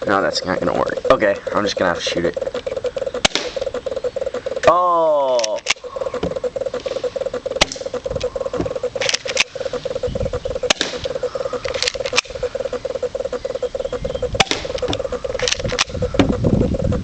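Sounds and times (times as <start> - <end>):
pulsing buzz: 0.0 - 17.0.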